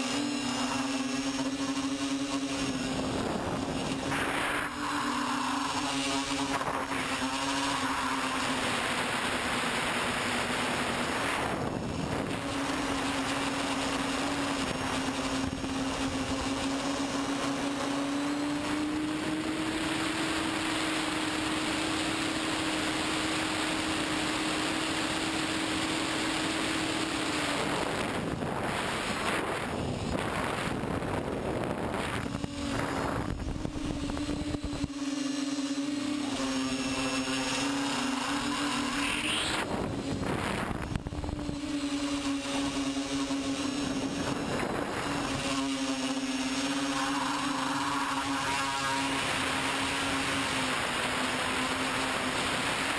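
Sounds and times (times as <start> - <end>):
drone motors and propellers buzzing: 0.0 - 52.9.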